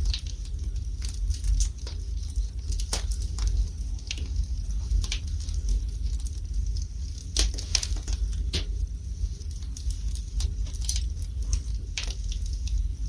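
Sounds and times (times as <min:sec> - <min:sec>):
low steady fire rumble: 0:00.0 - 0:13.0
wood fire crackling and popping: 0:00.0 - 0:13.0.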